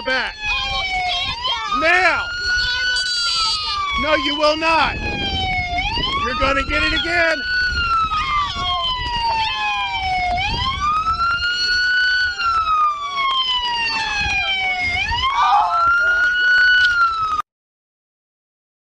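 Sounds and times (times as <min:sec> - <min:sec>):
police siren wailing: 0:00.0 - 0:17.4.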